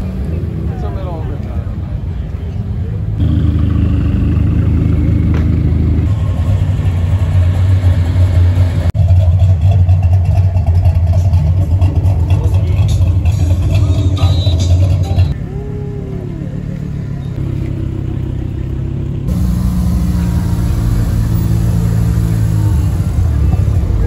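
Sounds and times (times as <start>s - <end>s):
car engines running at low speed: 0.0s - 24.0s.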